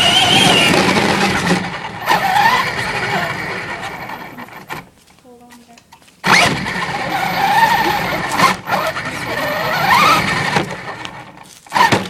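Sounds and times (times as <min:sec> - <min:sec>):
electric rc car motor whining: 0:00.0 - 0:04.7, 0:06.2 - 0:12.0.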